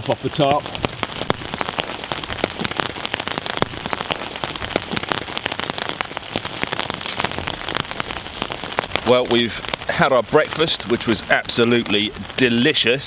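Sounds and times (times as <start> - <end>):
heavy rain patter: 0.0 - 13.0.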